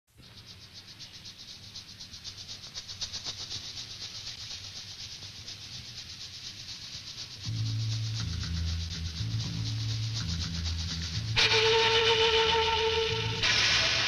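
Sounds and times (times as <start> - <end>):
rhythmic hissing percussion: 0.1 - 14.0
faint low hum: 0.2 - 14.0.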